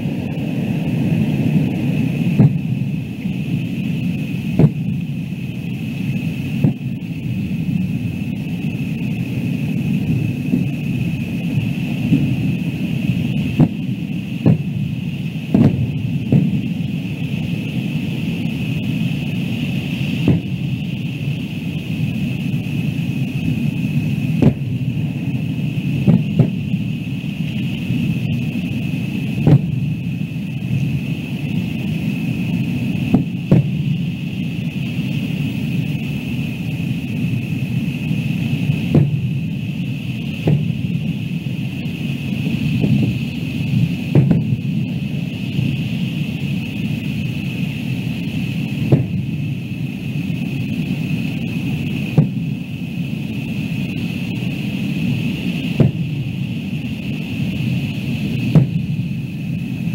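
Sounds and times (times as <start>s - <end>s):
constant high-pitched tone: 0.0s - 59.9s
distant fireworks booming: 0.0s - 59.9s
low rumble: 0.0s - 59.9s.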